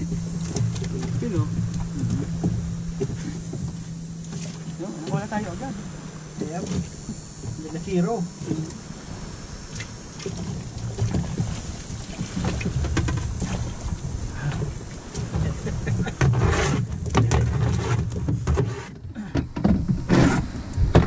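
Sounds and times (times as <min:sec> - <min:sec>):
low rumble of wind and water: 0:00.0 - 0:21.0.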